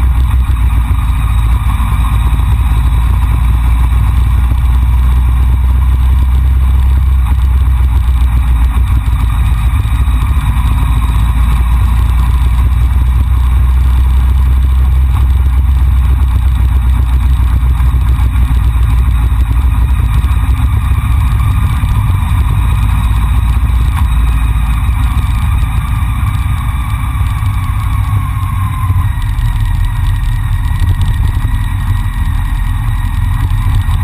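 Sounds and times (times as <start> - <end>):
motorcycle engine cruising: 0.0 - 34.0
wind rumble on camera: 0.0 - 34.0.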